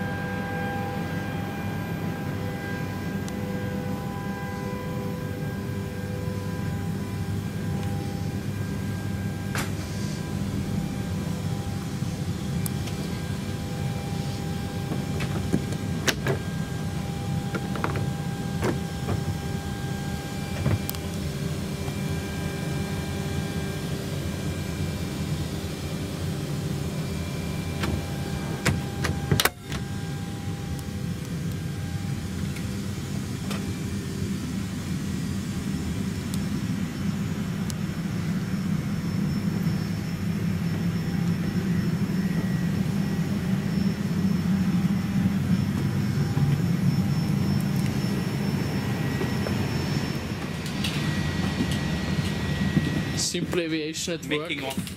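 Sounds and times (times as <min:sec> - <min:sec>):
cabin air system hum: 0:00.0 - 0:54.9
faint whining tones: 0:00.0 - 0:54.9.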